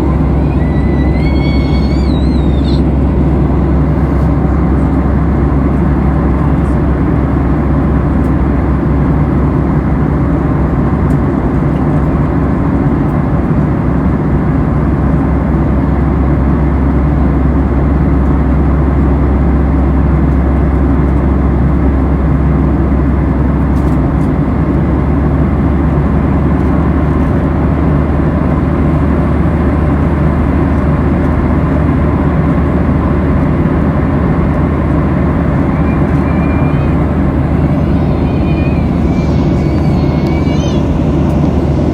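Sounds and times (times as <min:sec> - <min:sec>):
airliner cabin jet engine noise: 0:00.0 - 0:41.9.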